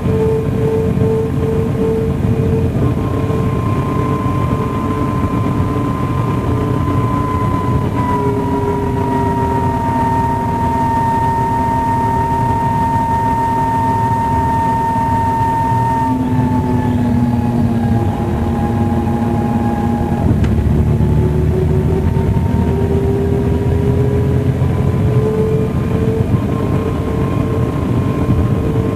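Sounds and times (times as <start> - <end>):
bus engine drone: 0.0 - 28.9
high whine: 0.0 - 28.9.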